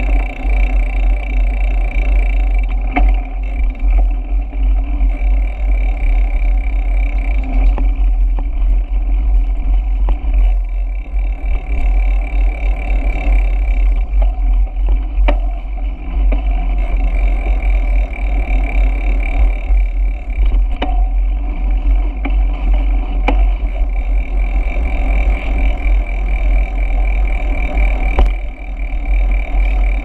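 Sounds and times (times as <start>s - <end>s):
rolling road noise: 0.0s - 30.0s.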